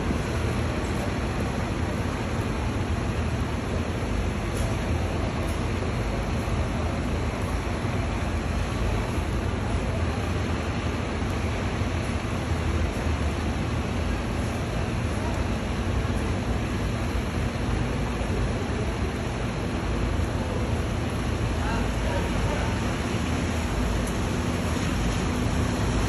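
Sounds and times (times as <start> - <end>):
idling diesel buses: 0.0 - 26.0
traffic rumble: 0.0 - 26.0.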